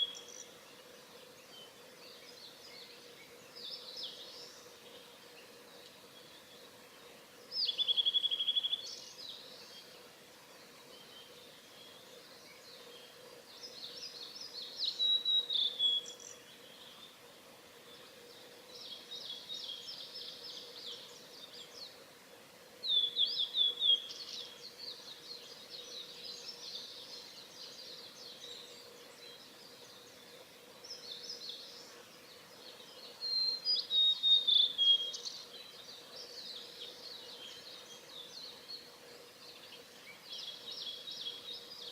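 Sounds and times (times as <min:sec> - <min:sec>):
bird song whistles and buzzy trills: 0:00.0 - 0:41.9
faint bird song: 0:00.0 - 0:41.9.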